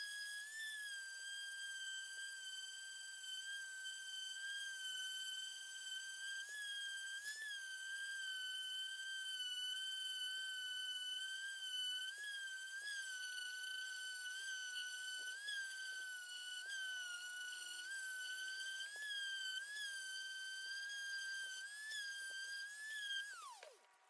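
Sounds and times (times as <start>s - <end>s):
electric palm sander whine: 0.1s - 23.9s.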